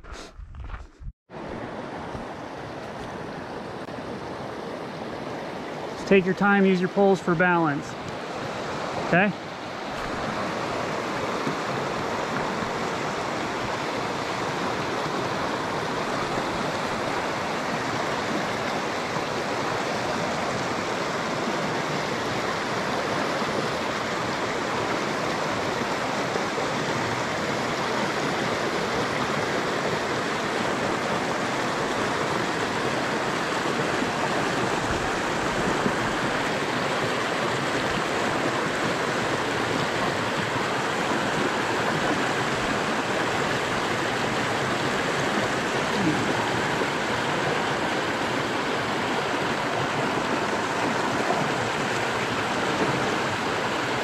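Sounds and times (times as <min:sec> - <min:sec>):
creek rushing over rocks: 0:00.6 - 0:54.0.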